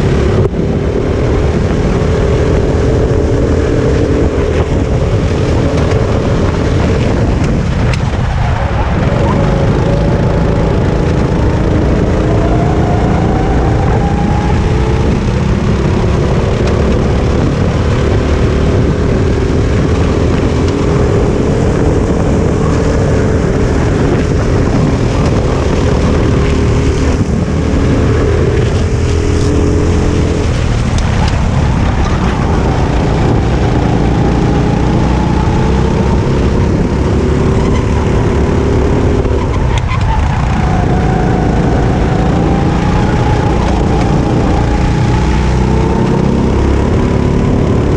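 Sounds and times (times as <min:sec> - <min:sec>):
kart engine racing: 0:00.0 - 0:47.9
other kart engines: 0:00.0 - 0:47.9.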